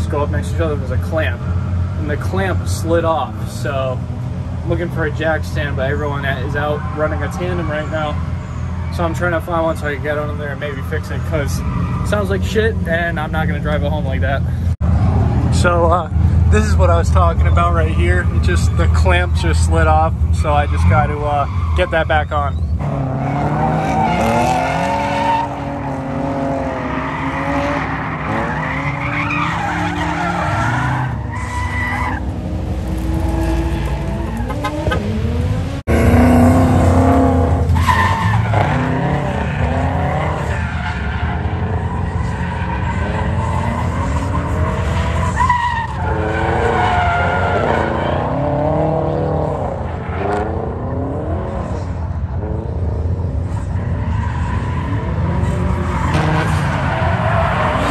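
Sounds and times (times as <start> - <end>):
car engines revving: 0.0 - 57.9
tire squeal: 4.7 - 15.2, 16.6 - 52.1, 53.2 - 57.9.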